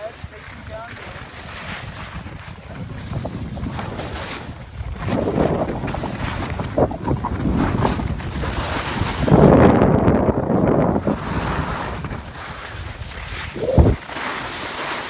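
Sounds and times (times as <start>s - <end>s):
skis scraping on snow: 0.0s - 9.6s, 10.6s - 15.0s
wind buffeting microphone: 0.0s - 14.0s.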